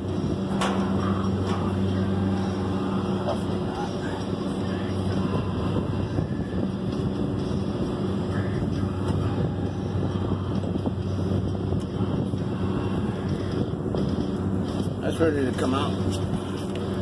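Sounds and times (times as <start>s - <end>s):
machinery hum and rumble: 0.0s - 17.0s
wind noise on microphone: 0.0s - 17.0s.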